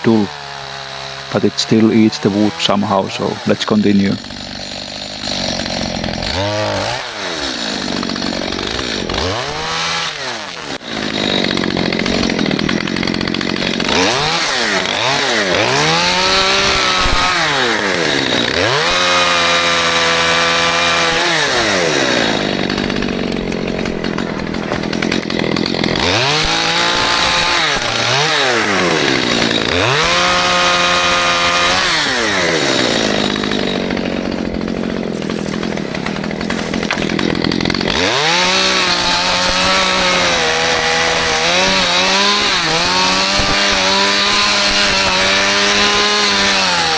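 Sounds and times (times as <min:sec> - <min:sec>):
chainsaw revving and cutting: 0:00.0 - 0:46.9.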